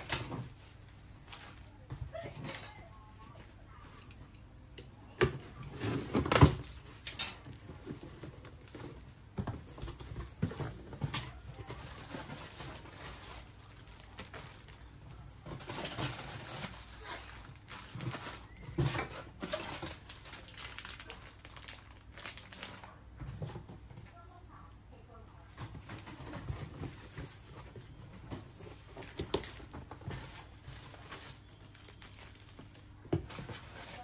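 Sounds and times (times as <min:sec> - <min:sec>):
plastic bags rustling: 0:00.0 - 0:03.6, 0:05.4 - 0:23.7, 0:25.5 - 0:34.0.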